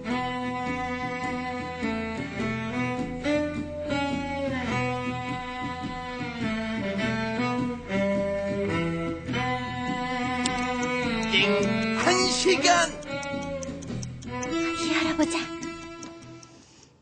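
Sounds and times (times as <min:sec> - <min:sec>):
instrumental music held notes: 0:00.0 - 0:16.6.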